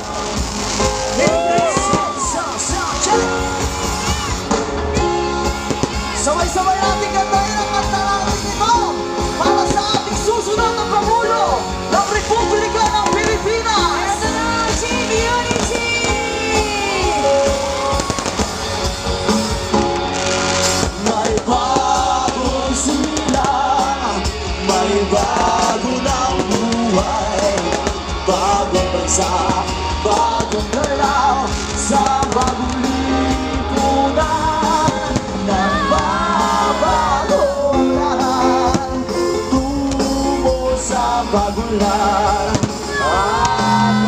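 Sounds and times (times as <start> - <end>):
song with singer and band: 0.0 - 44.0.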